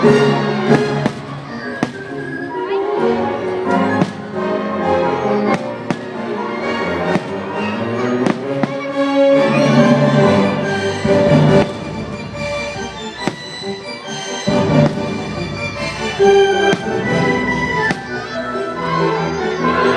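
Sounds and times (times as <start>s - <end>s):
fireworks bangs: 0.0s - 18.6s
orchestral music with strings: 0.0s - 19.9s.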